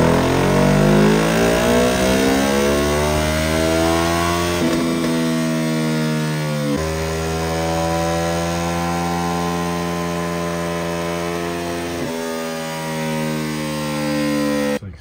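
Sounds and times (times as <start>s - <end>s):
motorcycle engine on dyno: 0.0s - 14.8s.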